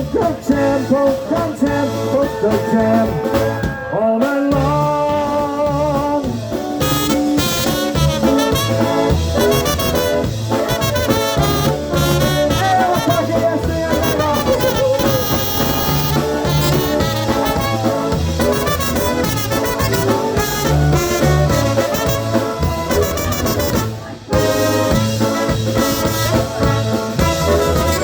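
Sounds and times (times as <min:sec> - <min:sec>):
polka band playing: 0:00.0 - 0:28.0.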